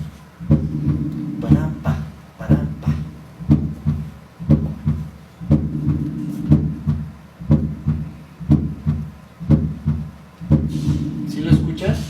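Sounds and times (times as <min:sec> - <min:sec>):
heartbeat thuds: 0:00.0 - 0:12.0.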